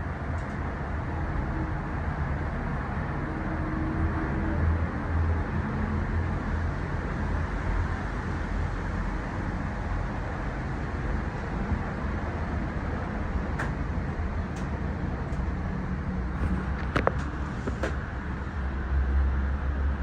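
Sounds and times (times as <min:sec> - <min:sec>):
gondola cabin rumble and air noise: 0:00.0 - 0:20.0.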